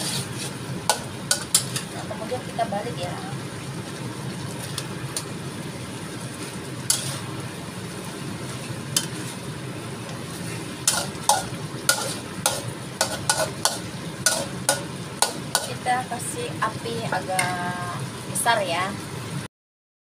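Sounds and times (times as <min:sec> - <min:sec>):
sauce simmering in wok: 0:00.0 - 0:19.5.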